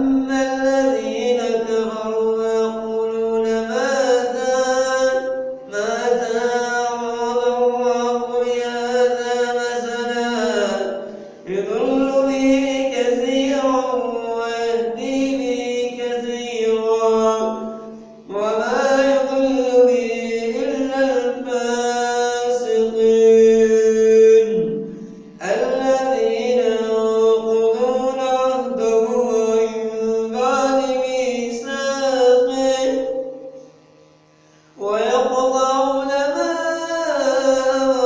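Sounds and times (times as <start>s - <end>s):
man chanting melodically: 0.0s - 33.7s, 34.7s - 38.0s.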